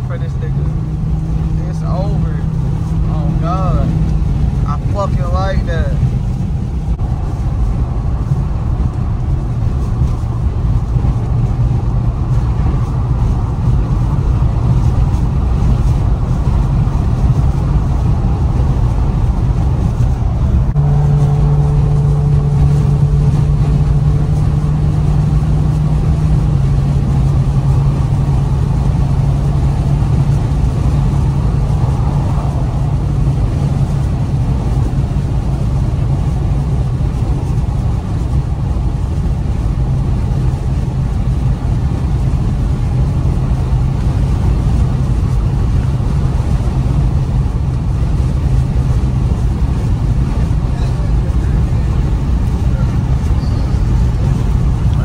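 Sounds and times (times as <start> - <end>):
car engine drone from cabin: 0.0 - 55.0
tyre and road noise: 0.0 - 55.0.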